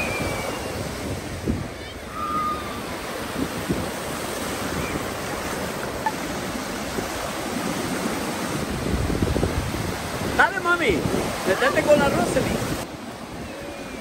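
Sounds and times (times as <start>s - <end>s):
ocean surf washing ashore: 0.0s - 14.0s
wind buffeting microphone: 0.0s - 14.0s.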